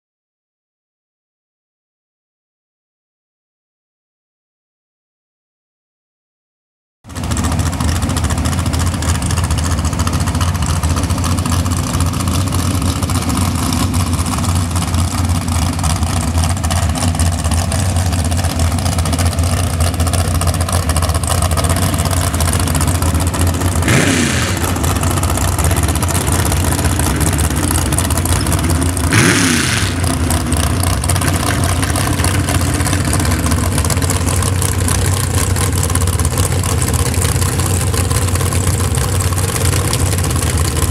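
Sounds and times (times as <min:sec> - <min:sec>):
truck engine idling and revving: 0:07.0 - 0:40.9.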